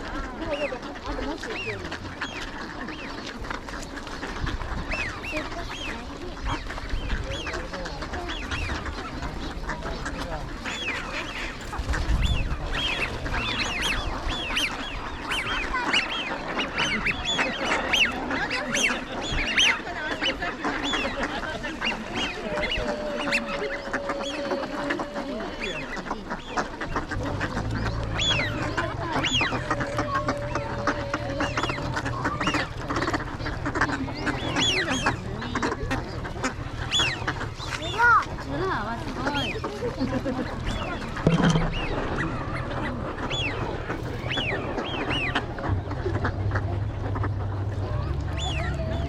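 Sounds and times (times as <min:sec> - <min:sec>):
flock of ducks calling: 0:00.0 - 0:49.0.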